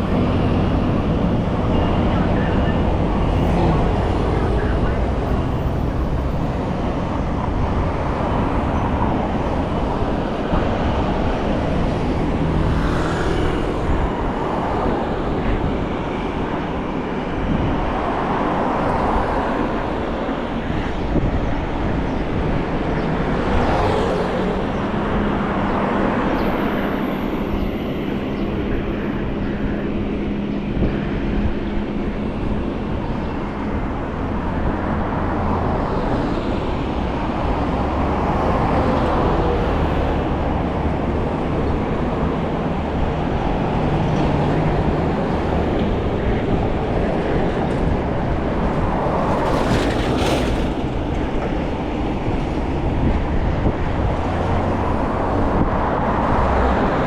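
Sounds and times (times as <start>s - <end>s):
passing vehicles: 0.0s - 57.0s
wind and road noise: 0.0s - 57.0s.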